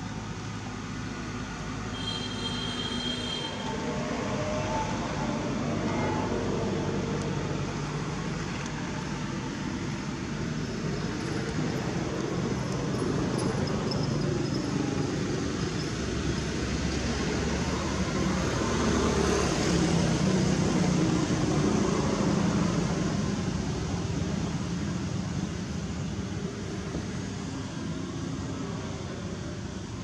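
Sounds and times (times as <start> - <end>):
low rumble of traffic: 0.0 - 30.0.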